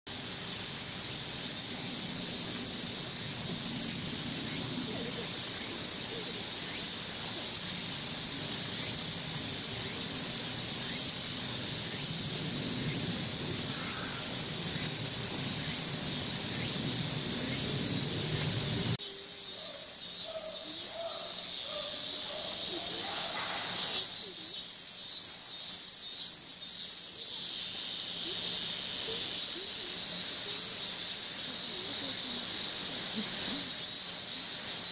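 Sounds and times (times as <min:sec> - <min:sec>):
cicadas singing: 0:00.1 - 0:34.9.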